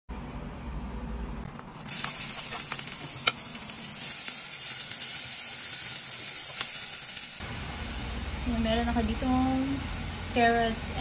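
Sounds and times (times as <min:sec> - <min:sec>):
onions sizzling in oil: 0:01.8 - 0:11.0.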